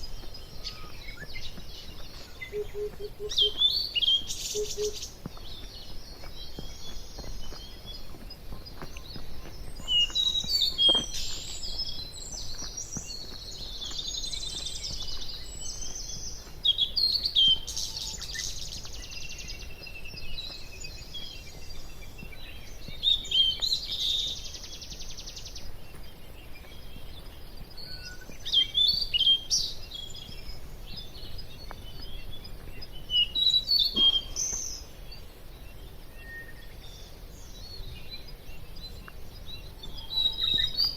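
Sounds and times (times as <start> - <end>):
wild birds chirping and singing: 0.0 - 40.9.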